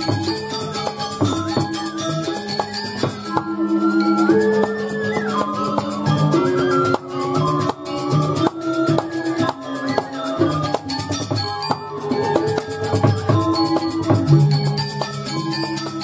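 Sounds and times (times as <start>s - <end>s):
drums: 0.0s - 16.0s
gamelan metal keys ringing: 0.0s - 16.0s
small cymbals shimmering: 0.0s - 16.0s.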